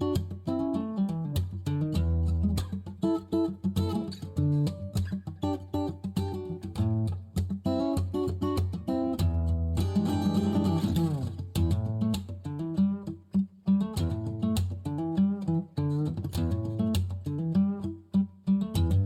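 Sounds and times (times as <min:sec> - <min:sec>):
guitar music with steady beat: 0:00.0 - 0:19.0.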